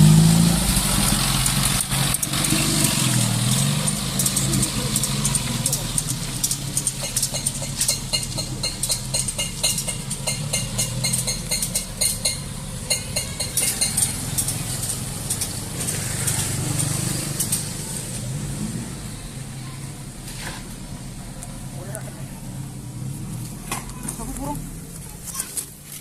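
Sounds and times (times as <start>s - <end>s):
motor engine idling: 0.0s - 26.0s.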